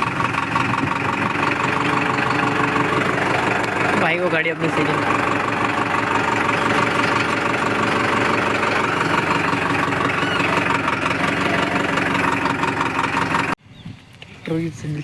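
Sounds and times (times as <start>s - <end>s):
tractor diesel engine running: 0.0s - 13.6s.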